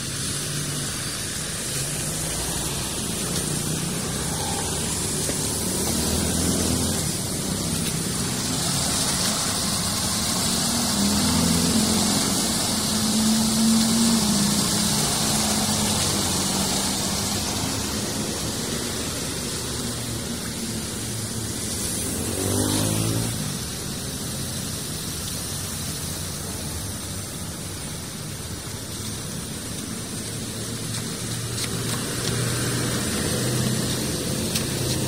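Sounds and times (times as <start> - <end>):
vehicle passing: 0.0 - 25.4, 29.2 - 35.0
floodwater rushing into culvert: 0.0 - 35.0
vehicle engine humming: 0.0 - 35.0.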